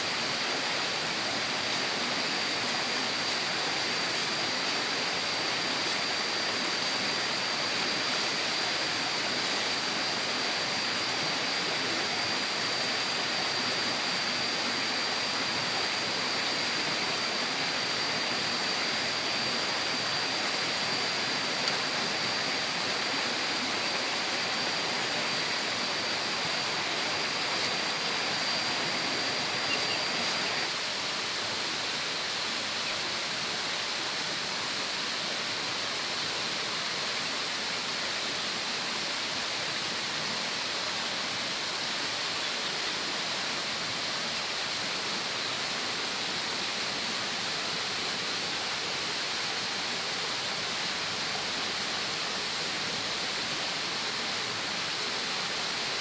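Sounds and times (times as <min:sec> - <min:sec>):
high-pitched whine: 0:00.0 - 0:56.0.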